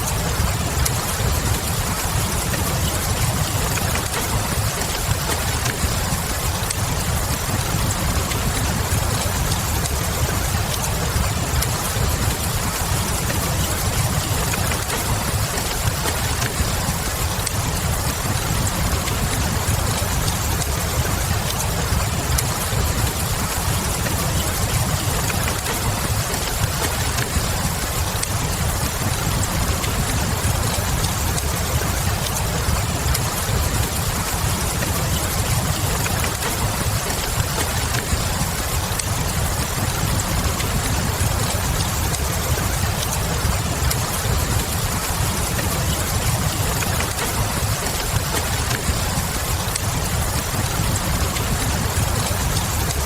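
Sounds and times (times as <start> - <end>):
steady rain: 0.0 - 53.0
wood fire crackling: 0.0 - 53.0.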